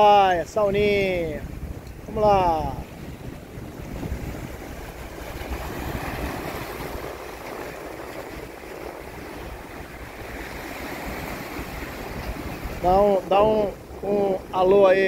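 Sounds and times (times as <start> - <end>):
waves breaking over rocks: 0.0 - 15.0
wind rumbling on microphone: 0.0 - 15.0.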